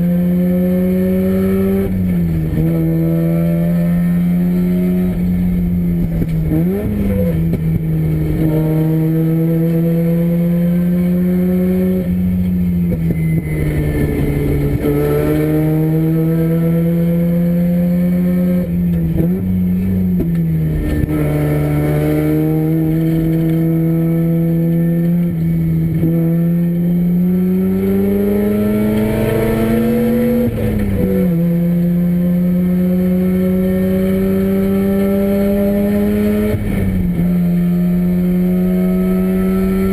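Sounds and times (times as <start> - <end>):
rotary race car engine: 0.0 - 39.9.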